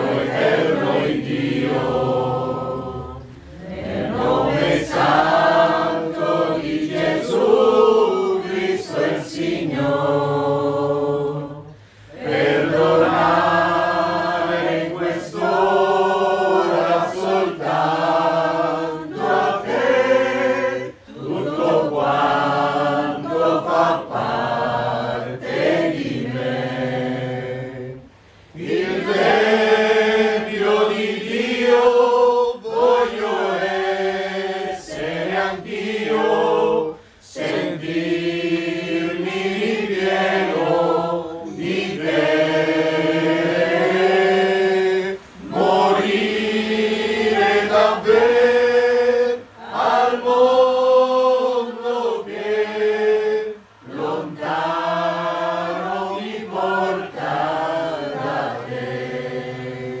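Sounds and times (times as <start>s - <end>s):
women singing a hymn: 0.0s - 60.0s.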